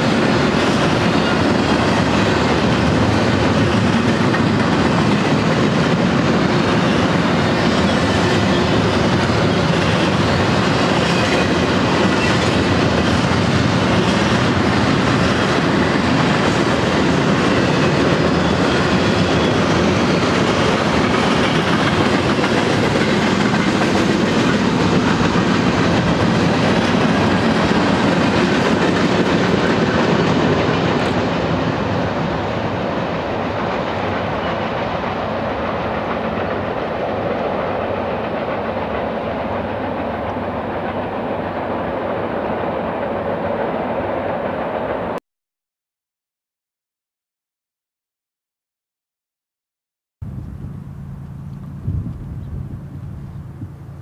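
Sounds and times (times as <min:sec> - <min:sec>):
freight train wheels clattering: 0:00.0 - 0:44.8.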